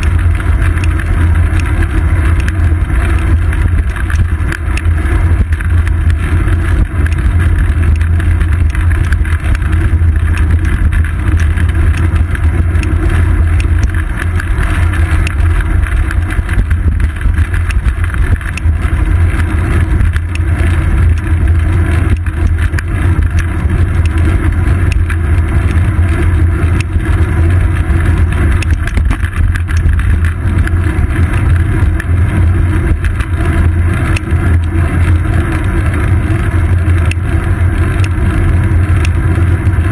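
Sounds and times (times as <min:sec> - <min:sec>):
faint small rattles: 0:00.0 - 0:39.9
wind and road rumble: 0:00.0 - 0:39.9.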